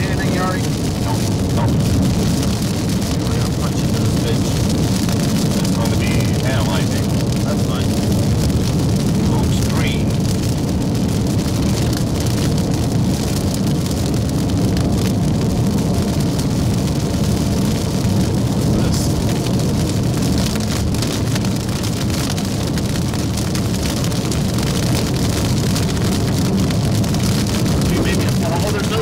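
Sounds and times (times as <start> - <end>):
rain on car: 0.0 - 29.0
road and engine noise in car: 0.0 - 29.0.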